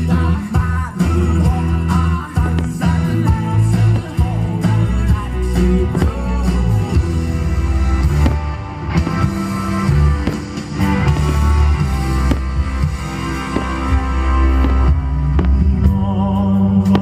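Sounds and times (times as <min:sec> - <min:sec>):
bass line: 0:00.0 - 0:17.0
electric guitar rock music: 0:00.0 - 0:17.0.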